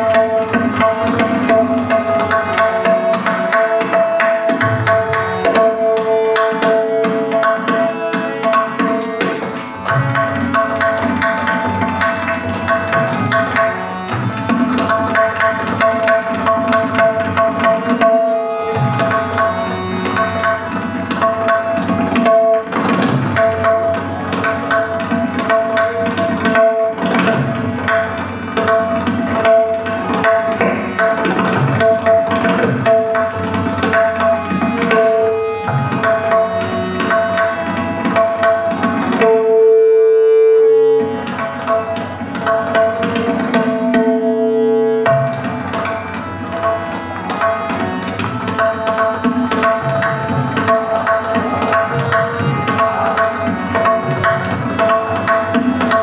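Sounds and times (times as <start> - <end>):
fast tabla drumming: 0.0 - 56.0
harmonium melody: 0.0 - 56.0.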